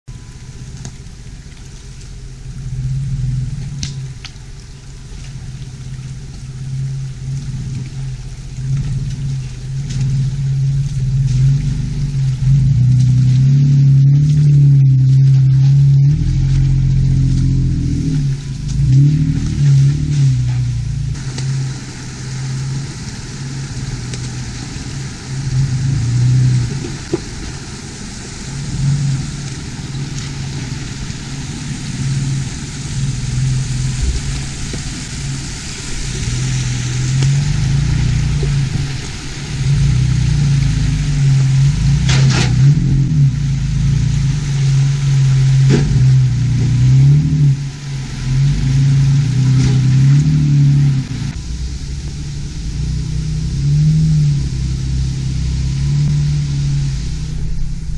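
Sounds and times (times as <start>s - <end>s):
vehicle engine revving: 0.0s - 57.9s.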